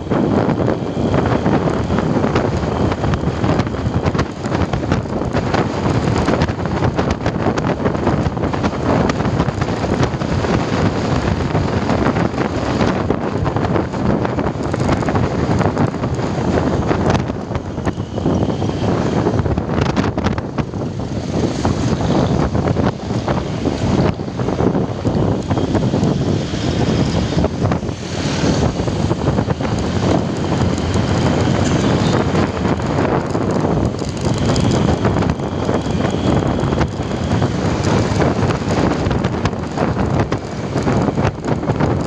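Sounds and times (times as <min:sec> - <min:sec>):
road and traffic noise: 0:00.0 - 0:42.0
wind buffeting microphone: 0:00.0 - 0:42.0.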